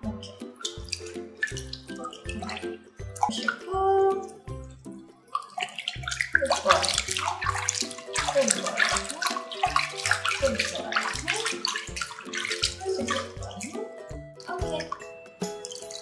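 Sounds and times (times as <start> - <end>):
water sloshing in a sink: 0.0 - 4.5, 5.3 - 16.0
light background music: 0.0 - 16.0.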